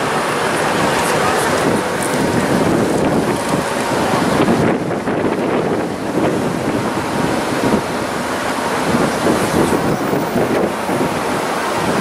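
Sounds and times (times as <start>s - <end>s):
gusty wind on microphone: 0.0s - 12.0s.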